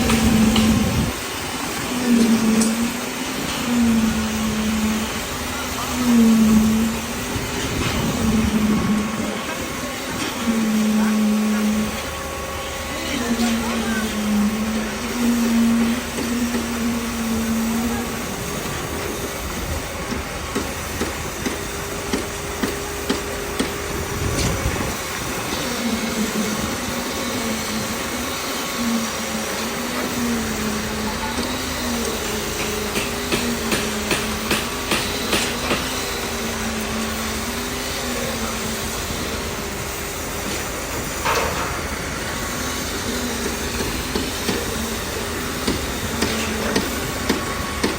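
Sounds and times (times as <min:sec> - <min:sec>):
machinery motor hum: 0:00.0 - 0:47.9.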